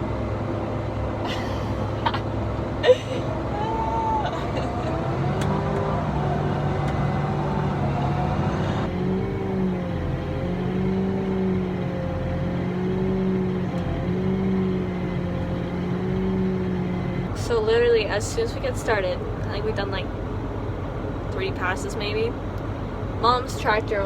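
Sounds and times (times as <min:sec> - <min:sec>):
farm machinery engine humming: 0:00.0 - 0:24.0.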